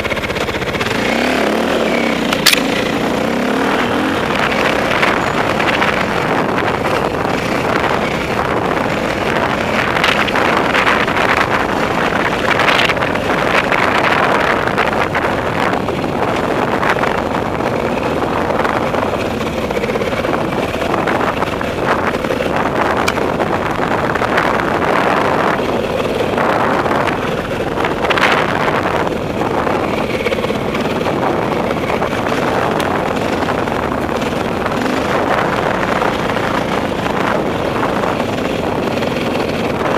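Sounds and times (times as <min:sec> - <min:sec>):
dirt bike engine running: 0:00.0 - 0:39.9
wind buffeting microphone: 0:00.0 - 0:39.9.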